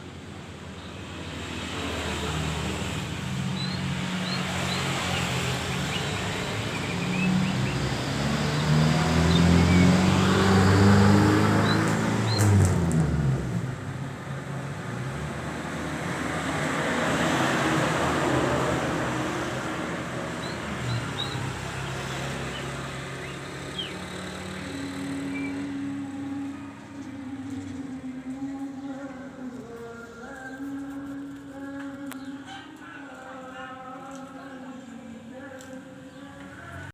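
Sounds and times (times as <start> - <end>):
traffic noise: 0.0 - 36.9
vehicle engine passing: 1.1 - 31.3.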